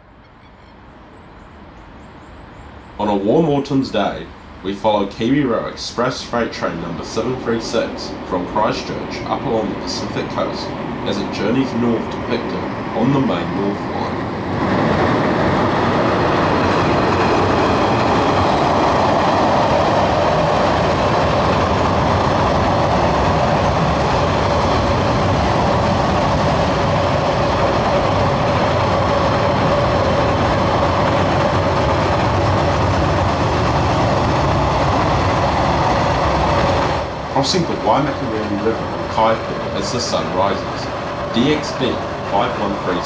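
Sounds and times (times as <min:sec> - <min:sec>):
train rumbling over bridge: 0:00.0 - 0:43.0.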